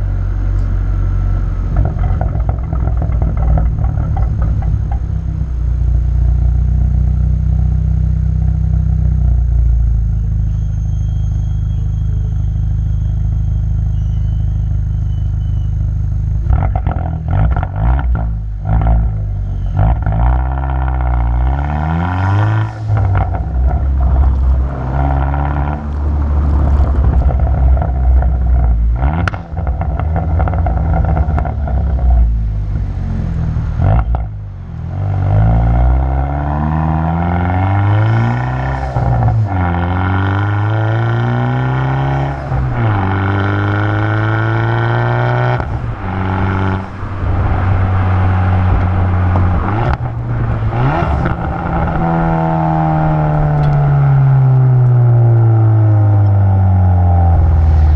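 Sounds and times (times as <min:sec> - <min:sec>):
car exhaust rumbling and revving: 0:00.0 - 0:57.9.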